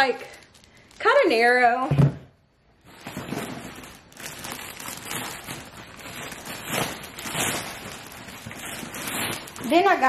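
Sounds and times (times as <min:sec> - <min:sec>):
packaging rustling: 0:00.0 - 0:01.7, 0:02.8 - 0:10.0.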